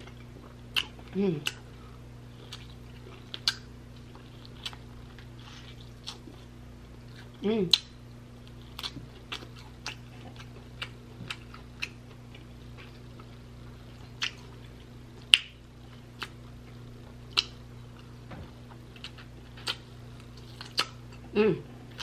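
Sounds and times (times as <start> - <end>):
faint low hum: 0.0 - 22.0
person chewing meat: 0.0 - 22.0.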